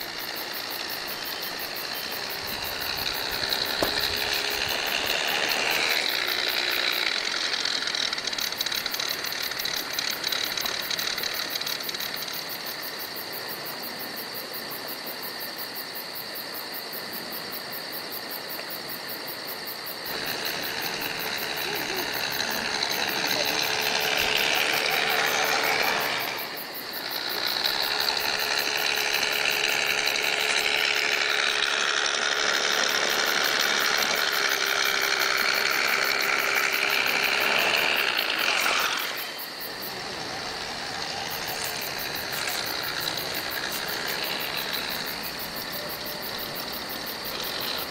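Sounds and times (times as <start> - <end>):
simulated engine running: 0.0 - 12.4, 20.1 - 47.9.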